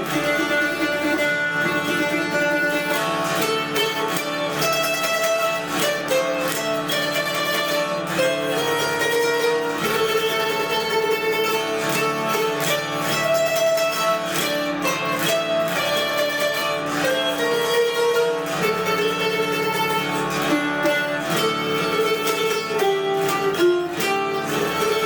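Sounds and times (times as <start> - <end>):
zither playing folk melody: 0.0 - 25.0.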